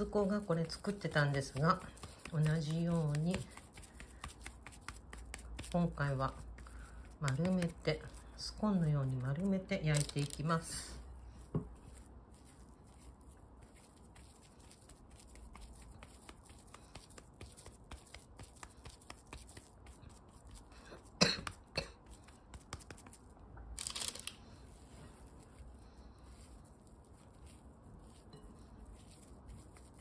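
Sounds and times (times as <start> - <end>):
hands shaping dough squishing: 0.0 - 30.0.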